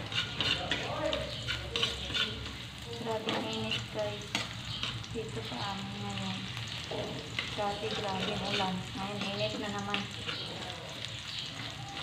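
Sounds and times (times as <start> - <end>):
metal ladle scraping wok: 0.0 - 5.5, 6.7 - 11.0
garlic sizzling in hot oil: 0.0 - 12.0.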